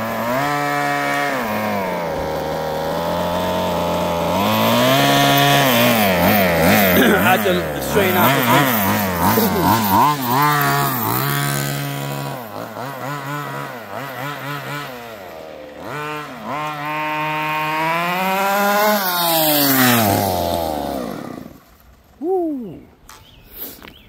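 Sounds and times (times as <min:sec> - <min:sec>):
two-stroke engine revving: 0:00.0 - 0:22.1.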